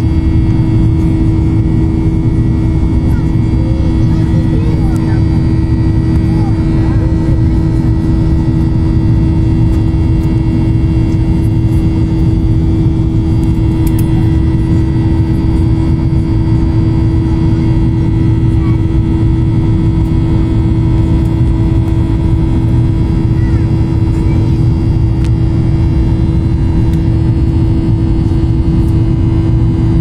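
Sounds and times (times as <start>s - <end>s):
airliner cabin engine drone: 0.0s - 30.0s.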